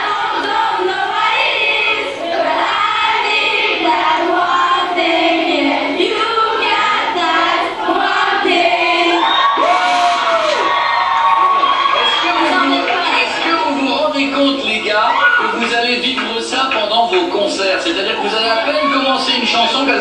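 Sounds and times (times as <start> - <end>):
crowd singing together: 0.0 - 20.0.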